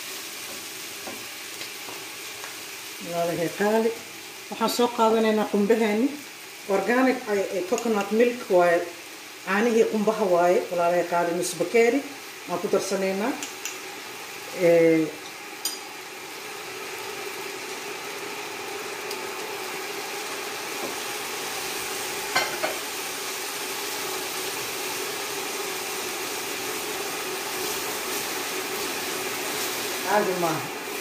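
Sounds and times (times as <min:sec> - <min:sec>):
vegetables sizzling in a pan: 0:00.0 - 0:31.0.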